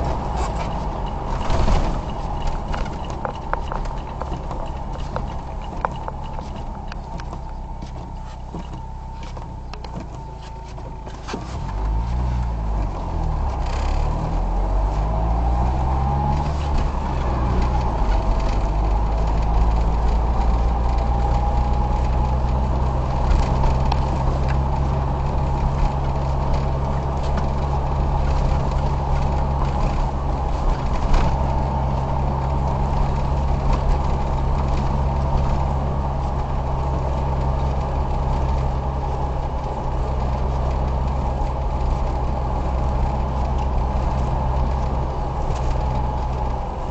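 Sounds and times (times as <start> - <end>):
car engine accelerating: 0.0 - 46.9
road noise: 0.0 - 46.9.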